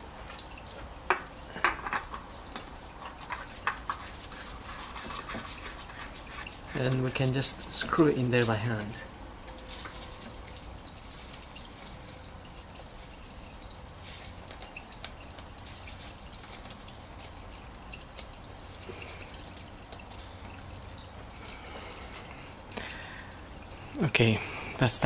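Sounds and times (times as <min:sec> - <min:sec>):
oil dripping into pan: 0:00.0 - 0:24.9
faint trickle: 0:00.0 - 0:25.0.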